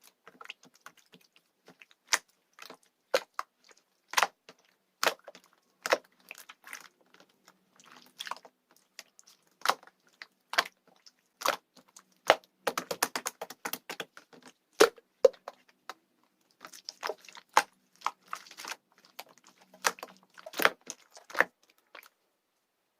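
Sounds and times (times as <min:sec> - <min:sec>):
slime squished by hand: 0:00.0 - 0:22.1.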